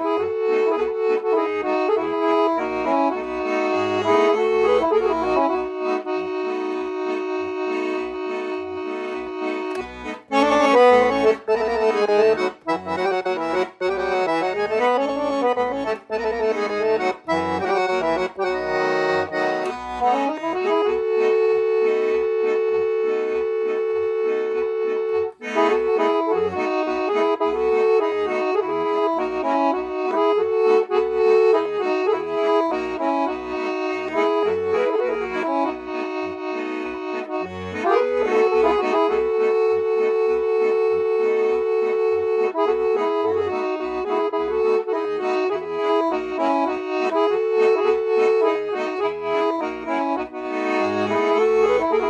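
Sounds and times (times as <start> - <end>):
accordion playing a folk tune: 0.0 - 52.0.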